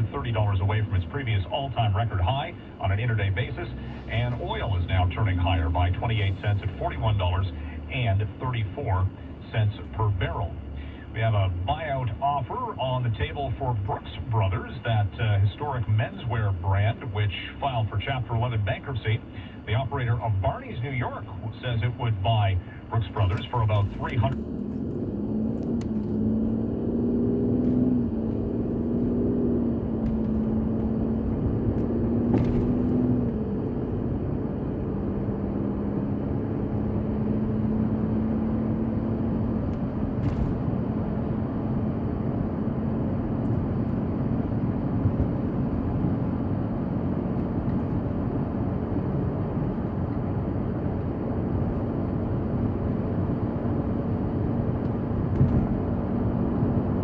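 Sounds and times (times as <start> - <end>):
car engine hum: 0.0 - 57.0.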